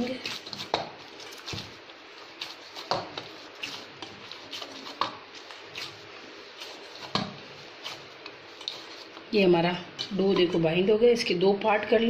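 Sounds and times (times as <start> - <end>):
dough squishing: 0.0 - 11.2.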